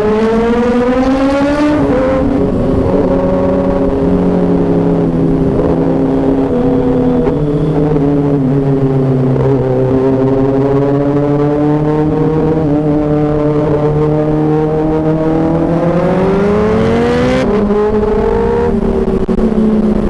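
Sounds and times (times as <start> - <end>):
sport bike engine accelerating: 0.0 - 20.0.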